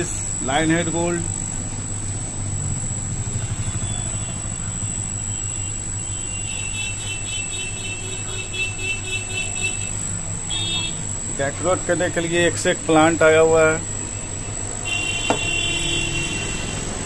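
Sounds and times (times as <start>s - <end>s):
high pulsing chirps: 0.0s - 16.8s
aquarium pumps humming: 0.0s - 17.0s.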